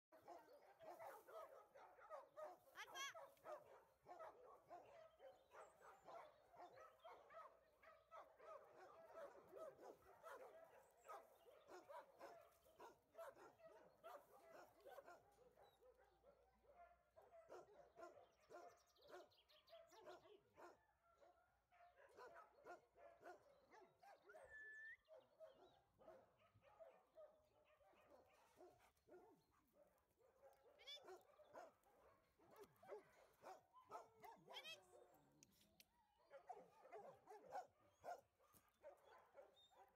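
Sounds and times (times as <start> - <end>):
dogs barking: 0.2 - 24.5, 25.1 - 35.1, 36.2 - 39.9.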